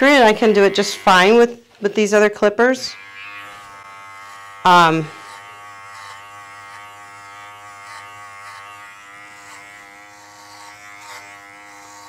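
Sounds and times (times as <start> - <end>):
dog clipper buzzing: 0.0 - 12.0.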